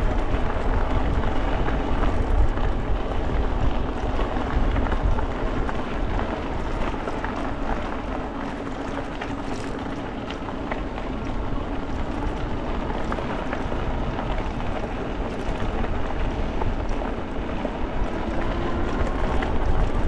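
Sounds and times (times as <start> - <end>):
bike tyres rolling on dirt trail: 0.0 - 20.0
small crackles from trail surface: 0.0 - 20.0
wind buffeting microphone: 0.0 - 20.0.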